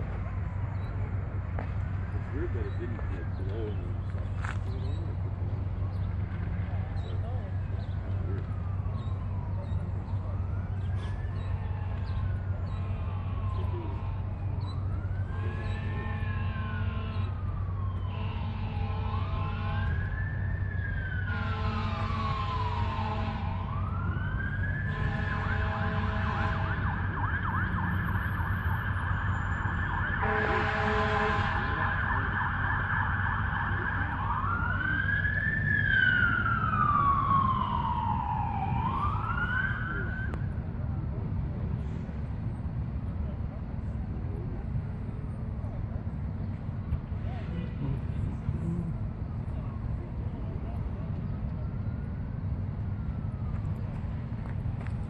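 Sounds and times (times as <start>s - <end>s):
emergency siren wailing: 0.0s - 41.5s, 47.1s - 55.0s.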